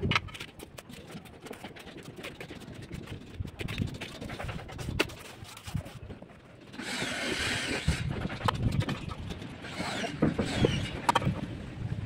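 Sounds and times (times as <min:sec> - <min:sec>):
trowel scraping mortar: 0:00.2 - 0:11.4.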